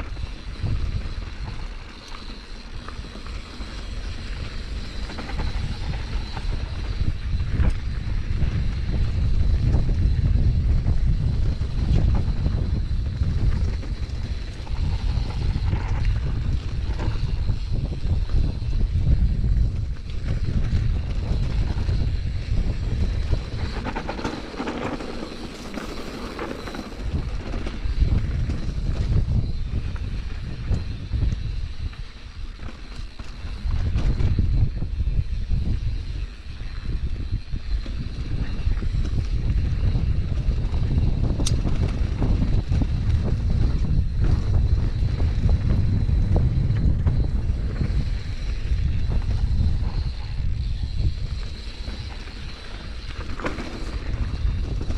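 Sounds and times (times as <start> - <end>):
bike rattles and knocks: 0.0 - 54.9
mountain bike rumble: 0.0 - 54.9
wind buffeting microphone: 0.0 - 54.9.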